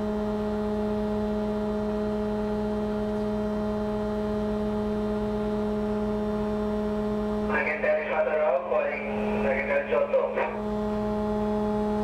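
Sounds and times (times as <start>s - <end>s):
ship machinery humming: 1.6s - 12.0s.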